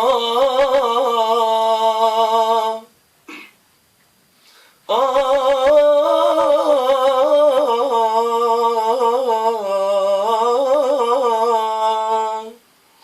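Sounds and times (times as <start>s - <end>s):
person singing long wordless note: 0.0s - 2.9s, 4.9s - 12.6s.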